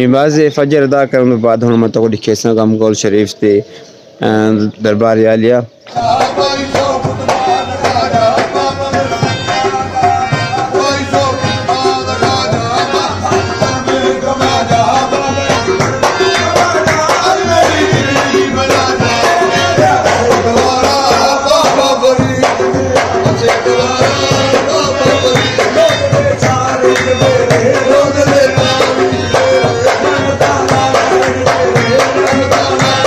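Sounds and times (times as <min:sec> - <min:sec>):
tabla drumming: 0:05.9 - 0:33.0.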